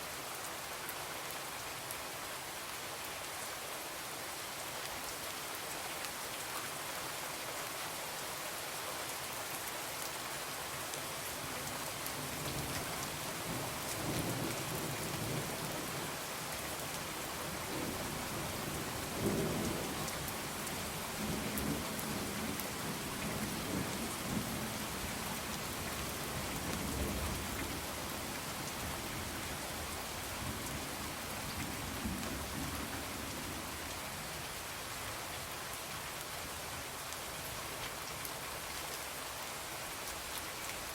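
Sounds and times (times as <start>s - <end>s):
rain on a window: 0.0s - 40.9s.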